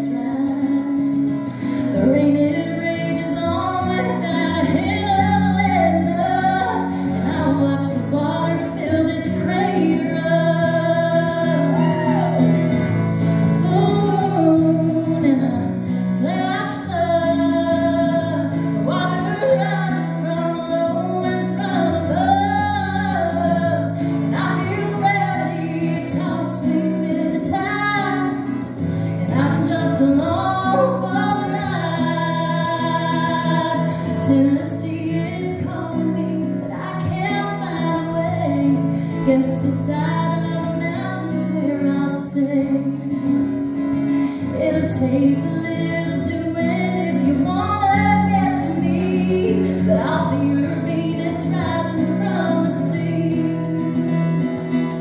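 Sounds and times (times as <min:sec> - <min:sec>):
strummed electric guitar: 0:00.0 - 0:55.0
woman singing: 0:00.0 - 0:55.0.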